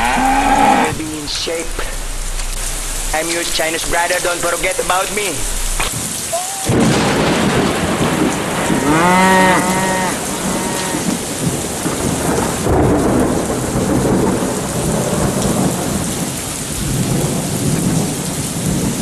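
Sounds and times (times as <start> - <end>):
heavy rain splashing on water: 0.0 - 19.0
thunder rumbling: 0.0 - 19.0.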